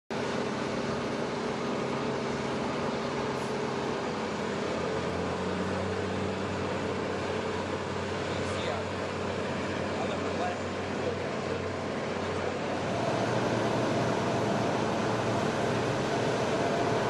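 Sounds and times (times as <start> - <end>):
turbine whine: 0.2 - 17.0.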